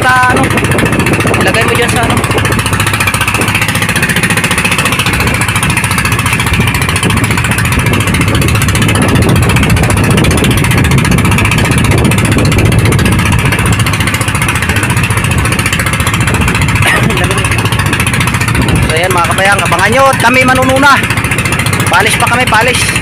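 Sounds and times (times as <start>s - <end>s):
boat engine chugging: 0.0s - 23.0s.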